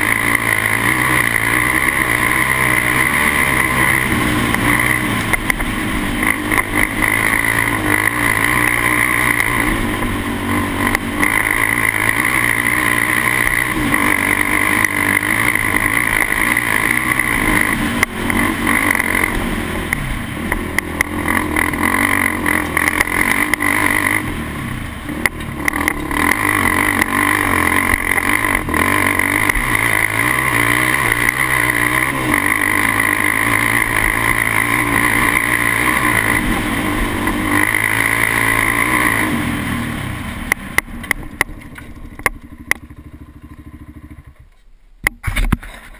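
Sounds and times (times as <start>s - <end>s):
quad bike engine revving: 0.0s - 44.4s.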